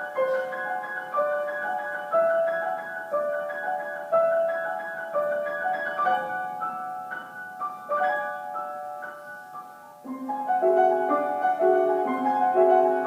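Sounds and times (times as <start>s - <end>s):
solo piano classical piece: 0.0s - 13.0s.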